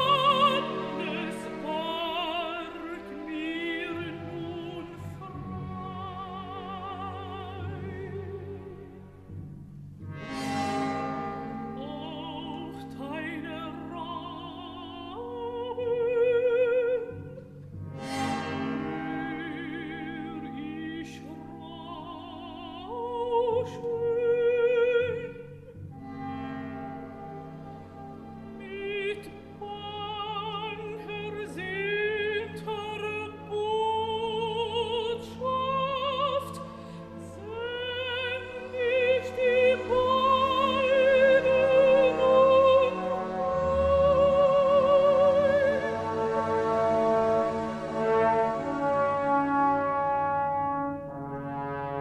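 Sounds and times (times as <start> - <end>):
operatic singing: 0.0 - 9.3, 10.1 - 52.0
instrumental accompaniment: 0.0 - 52.0.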